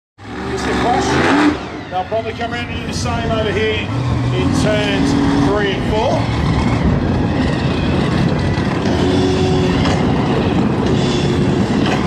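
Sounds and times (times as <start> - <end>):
monster truck engine running: 0.2 - 12.0.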